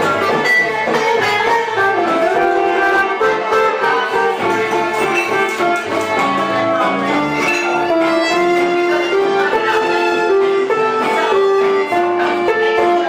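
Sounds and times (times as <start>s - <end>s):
plucked guitar: 0.0s - 13.0s
violin melody: 0.0s - 13.0s.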